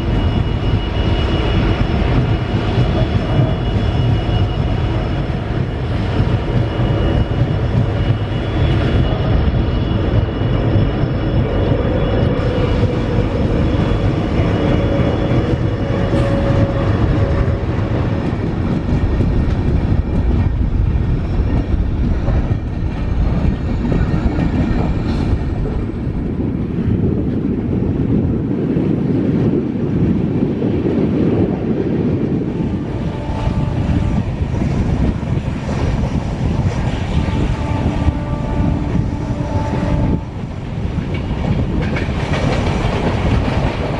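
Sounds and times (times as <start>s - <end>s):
train coaches running over track: 0.0s - 43.9s.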